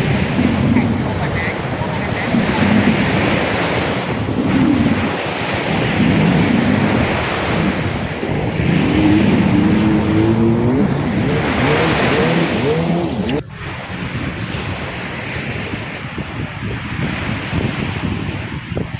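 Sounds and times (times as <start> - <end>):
sea surf washing onto beach: 0.0 - 18.9
wind buffeting microphone: 0.0 - 18.9.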